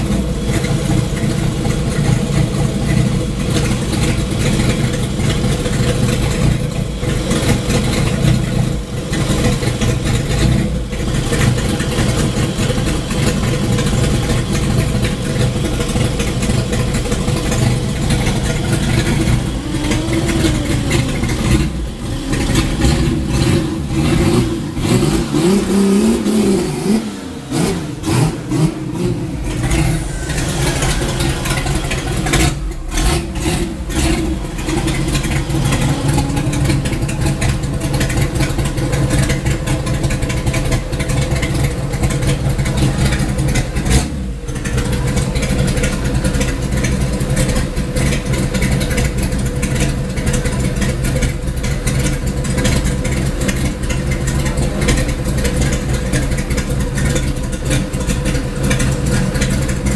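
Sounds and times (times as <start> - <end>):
loud car engine lumpy idle: 0.0 - 59.9.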